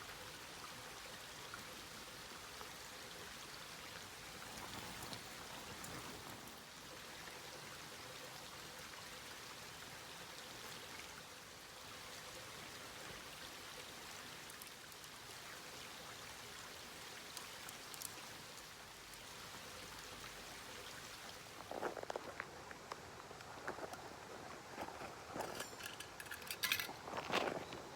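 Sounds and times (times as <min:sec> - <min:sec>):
faint rush of water: 0:00.0 - 0:27.9.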